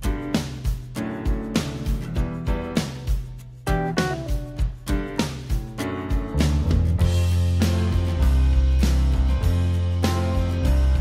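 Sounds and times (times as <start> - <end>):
plucked string music over a beat: 0.0 - 11.0.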